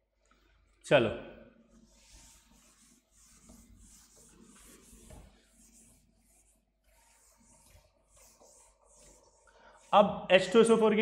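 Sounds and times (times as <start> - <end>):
chalkboard being wiped: 1.7 - 11.0.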